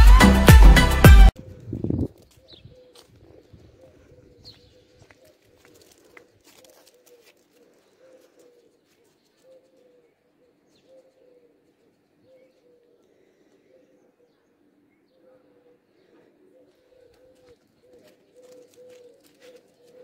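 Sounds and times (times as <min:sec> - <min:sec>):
pigeon cooing: 0:01.4 - 0:20.0.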